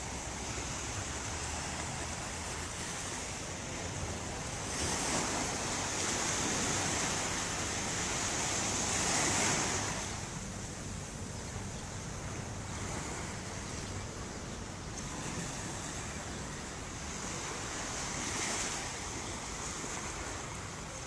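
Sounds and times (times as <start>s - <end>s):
ocean waves washing onto shore: 0.0s - 21.0s.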